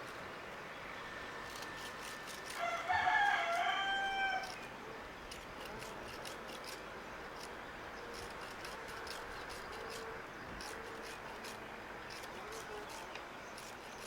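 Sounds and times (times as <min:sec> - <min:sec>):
small saw scraping wood: 0:01.2 - 0:14.0.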